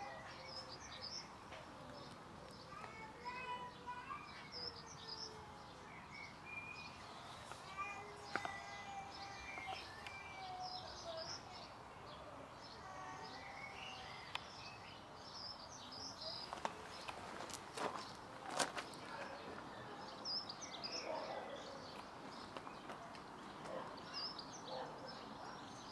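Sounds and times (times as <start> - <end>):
outdoor background hiss: 0.0 - 25.9
songbirds chirping and singing: 0.0 - 25.9.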